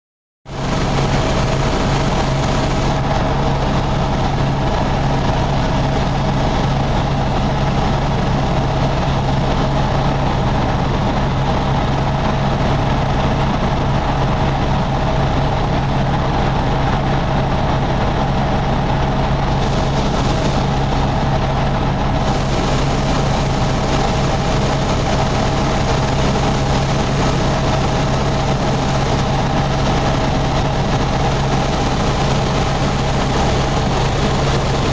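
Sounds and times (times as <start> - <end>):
helicopter turbine and rotor drone: 0.5 - 34.9.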